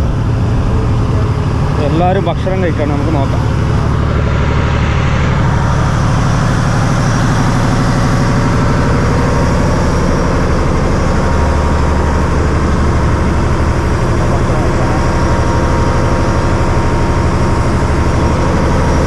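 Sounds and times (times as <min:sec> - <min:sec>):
boat engine drone: 0:00.0 - 0:19.0
wind: 0:00.0 - 0:19.0.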